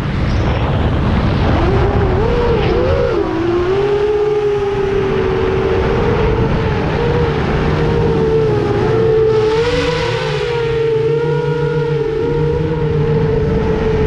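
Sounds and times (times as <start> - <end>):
rushing noise: 0.0 - 14.0
quadcopter motors whining: 0.2 - 14.0.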